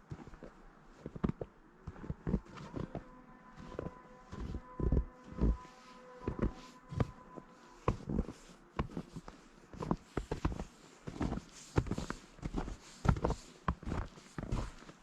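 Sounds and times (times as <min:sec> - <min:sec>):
footsteps crunching through snow: 0:00.0 - 0:15.0.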